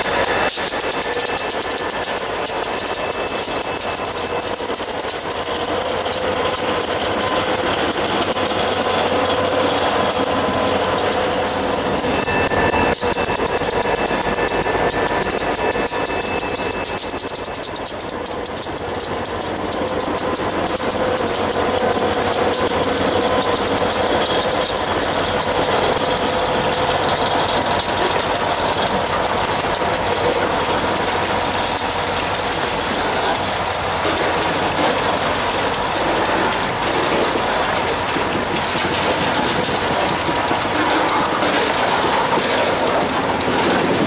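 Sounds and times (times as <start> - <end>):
diesel locomotives passing: 0.0 - 44.0
train wheels clicking over rail joints: 0.0 - 44.0.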